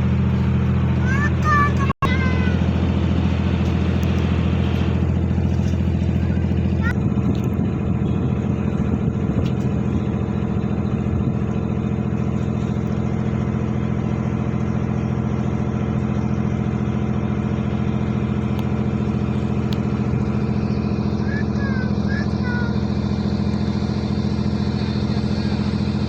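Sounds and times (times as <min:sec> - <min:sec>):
ship engine droning: 0:00.0 - 0:26.0.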